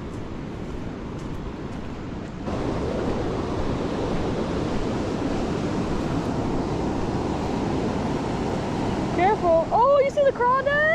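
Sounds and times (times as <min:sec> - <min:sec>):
fast-flowing creek water: 0:00.0 - 0:10.9
wind buffeting microphone: 0:00.0 - 0:10.9.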